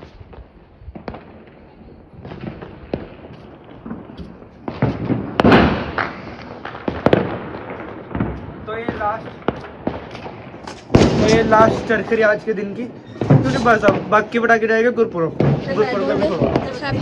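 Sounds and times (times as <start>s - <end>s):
firecrackers popping: 0.0s - 17.0s.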